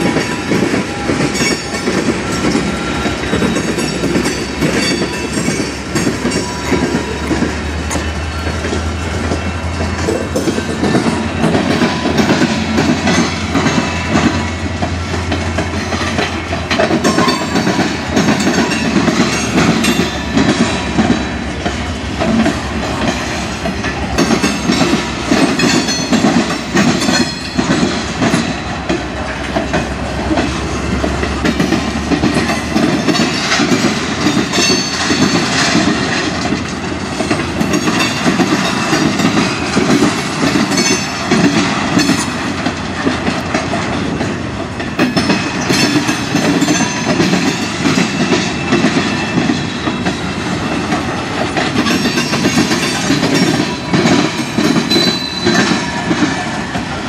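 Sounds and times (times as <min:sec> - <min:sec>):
freight train rolling past: 0:00.0 - 0:57.0
steel wheels clattering on rails: 0:00.0 - 0:57.0.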